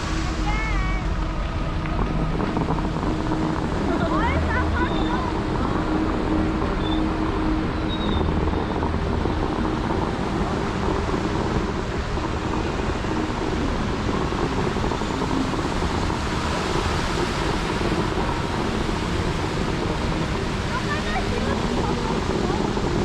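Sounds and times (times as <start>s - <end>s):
fountain jets spraying water: 0.0s - 23.0s.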